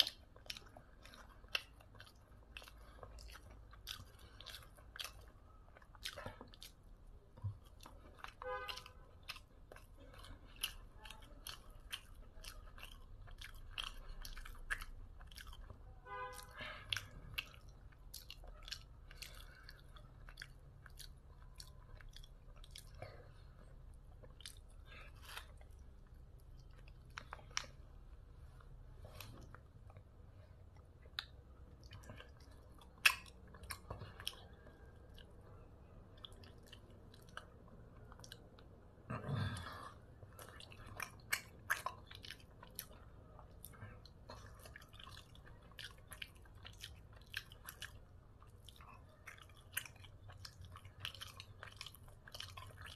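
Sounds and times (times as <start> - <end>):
wet open-mouthed chewing smacks: 0.0 - 52.9.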